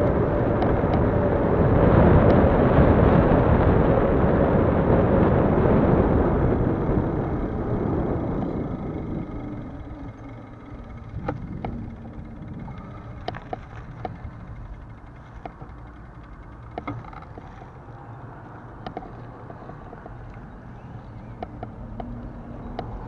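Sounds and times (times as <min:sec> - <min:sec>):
bicycle clicks and rattles: 0:00.0 - 0:02.9, 0:05.6 - 0:23.0
tyres rumbling on asphalt: 0:00.0 - 0:23.0
wind noise: 0:00.0 - 0:23.0.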